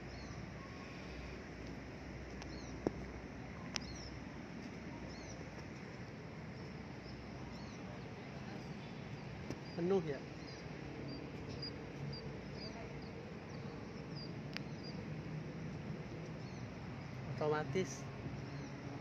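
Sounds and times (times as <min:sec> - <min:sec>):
outdoor background noise: 0:00.0 - 0:19.0
small birds chirping: 0:00.0 - 0:19.0.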